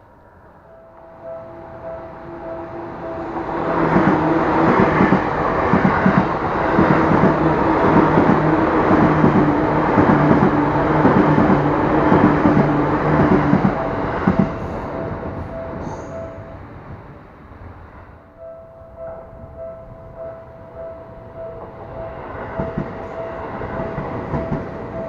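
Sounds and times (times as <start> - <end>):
train passing: 0.0 - 25.0
crossing warning bell ringing: 0.1 - 17.0, 18.2 - 25.0.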